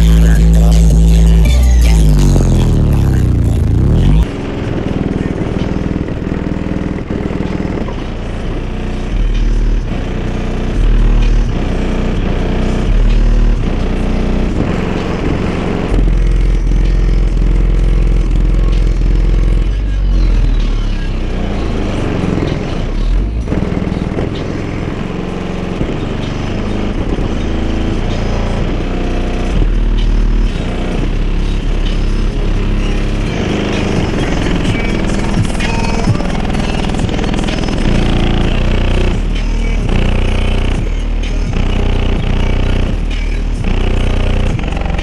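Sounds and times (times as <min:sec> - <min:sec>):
deep bass rap music: 0:00.0 - 0:45.0.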